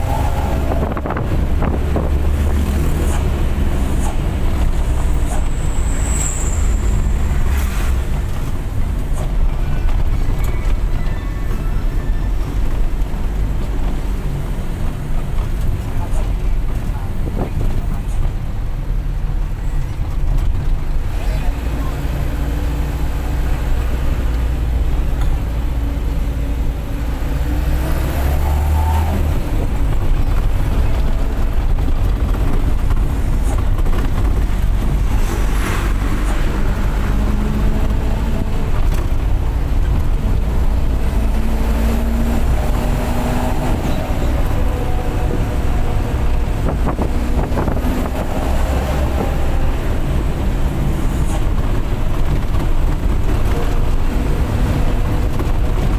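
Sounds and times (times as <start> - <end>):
bus engine rumbling: 0.0 - 55.9
road noise: 0.0 - 55.9.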